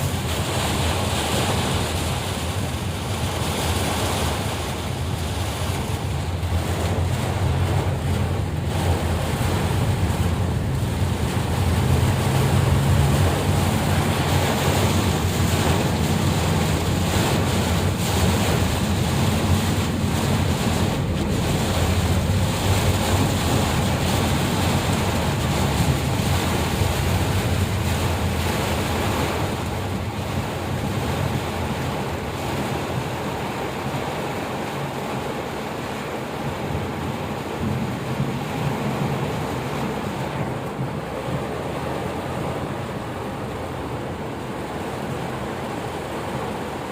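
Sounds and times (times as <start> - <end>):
heavy rain: 0.0 - 46.9
wind buffeting microphone: 0.0 - 46.9.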